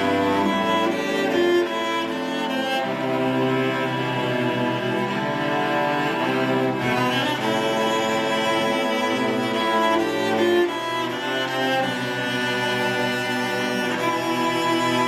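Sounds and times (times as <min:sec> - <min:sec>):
school orchestra playing: 0:00.0 - 0:15.0.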